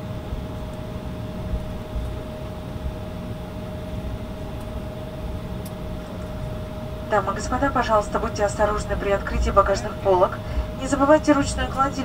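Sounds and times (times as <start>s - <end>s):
jet engines idling hum: 0.0s - 12.0s.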